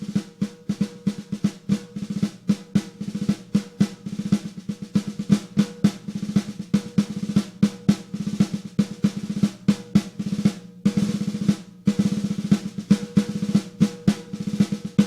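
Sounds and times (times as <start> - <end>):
snare drum played with sticks: 0.0 - 15.0.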